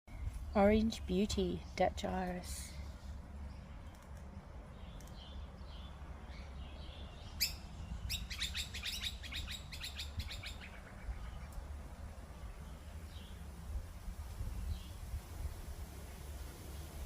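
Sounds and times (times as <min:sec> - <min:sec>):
birds chirping: 0:00.2 - 0:13.7, 0:14.4 - 0:15.1.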